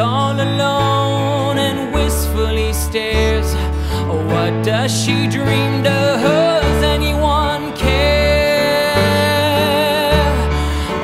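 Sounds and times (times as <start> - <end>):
bass: 0.0 - 11.0
piano: 0.0 - 11.0.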